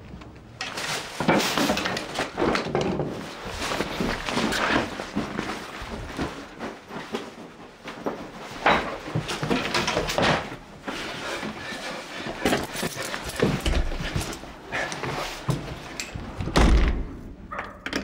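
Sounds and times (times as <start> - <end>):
cupboards and drawers rummaged: 0.0 - 18.0.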